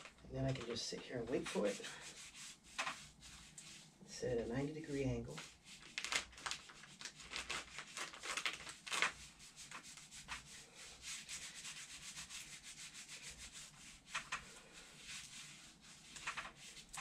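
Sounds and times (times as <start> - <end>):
gloved hands rubbing cast: 0.0 - 4.0, 5.3 - 17.0.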